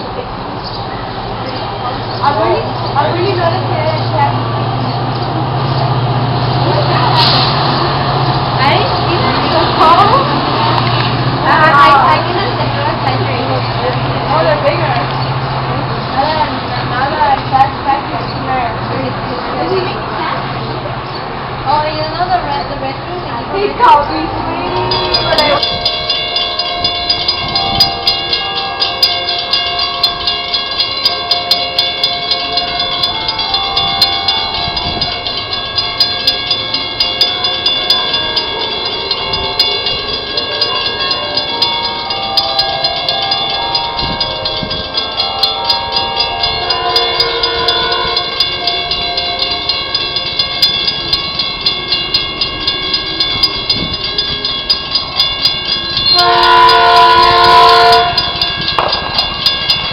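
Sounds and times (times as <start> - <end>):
railroad crossing bell ringing: 0.0 - 59.9
train rumble: 0.0 - 59.9.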